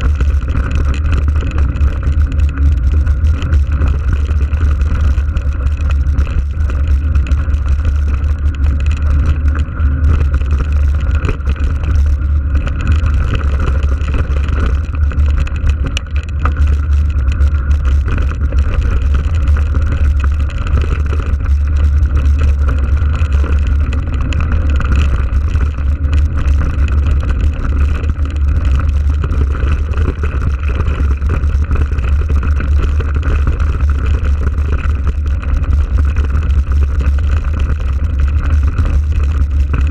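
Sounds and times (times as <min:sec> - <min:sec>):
bike rolling over gravel: 0:00.0 - 0:39.9
wind buffeting microphone: 0:00.0 - 0:39.9.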